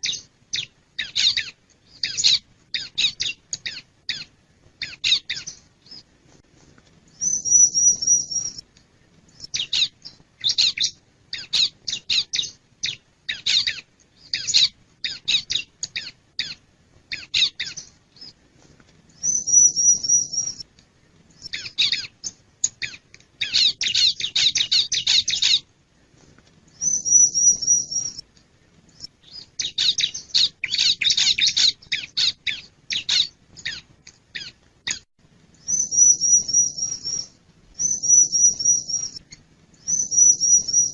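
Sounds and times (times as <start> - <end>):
bird trill: 0.0 - 6.0, 7.2 - 8.6, 9.4 - 18.4, 19.2 - 20.7, 21.4 - 25.6, 26.8 - 28.2, 28.9 - 40.9
bird chirping: 0.0 - 6.1, 7.1 - 8.6, 9.3 - 18.5, 19.1 - 20.7, 21.3 - 25.7, 26.7 - 28.2, 28.9 - 40.9.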